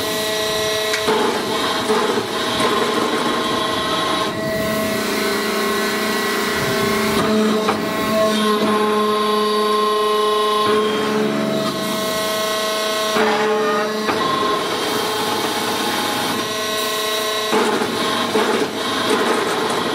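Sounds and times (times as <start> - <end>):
hydraulic press humming: 0.0 - 19.9.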